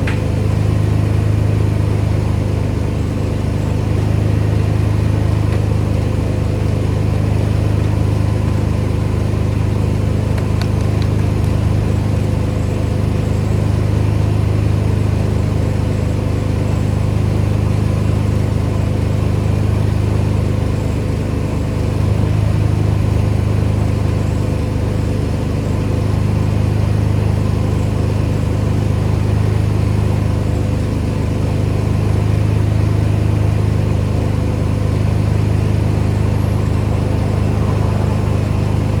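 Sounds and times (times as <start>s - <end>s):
pressure washer engine running: 0.0s - 39.0s.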